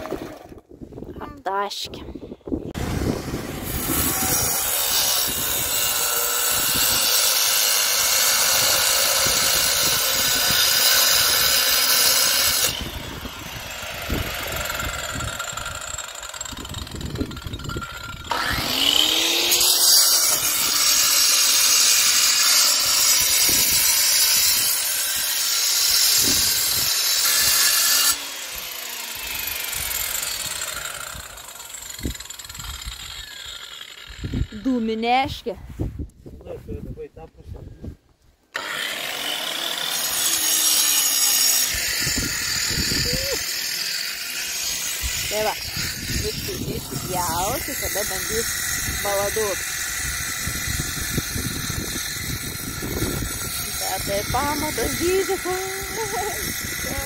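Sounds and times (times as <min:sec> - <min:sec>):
power tool cutting concrete: 0:00.0 - 0:00.7, 0:02.7 - 0:35.0, 0:38.5 - 0:57.0.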